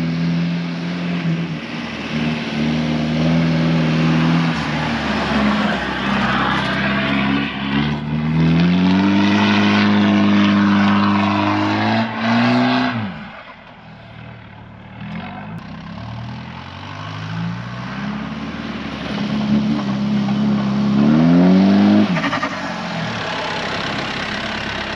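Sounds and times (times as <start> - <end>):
diesel engine revving: 0.0 - 24.9.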